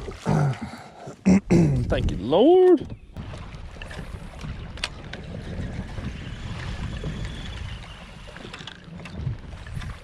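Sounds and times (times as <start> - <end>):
wind buffeting microphone: 1.8 - 10.0.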